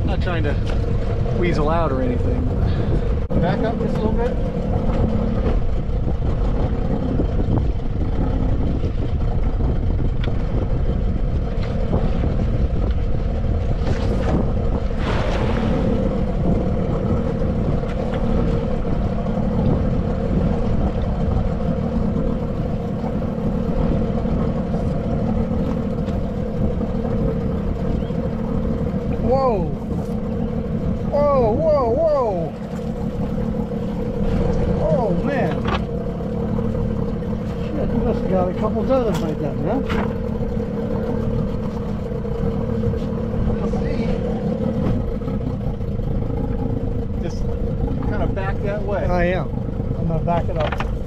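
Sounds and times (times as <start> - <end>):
boat motor running: 0.0 - 51.0.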